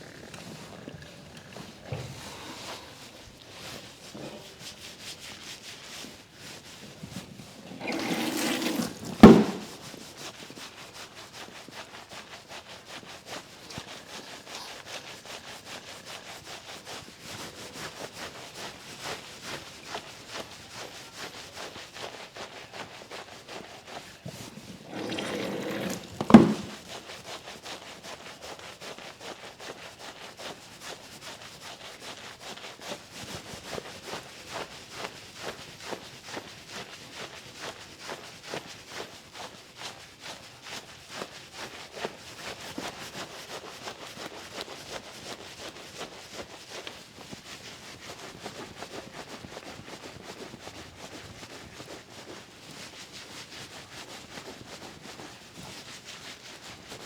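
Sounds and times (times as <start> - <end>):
hands scratching lathered scalp: 0.1 - 57.0.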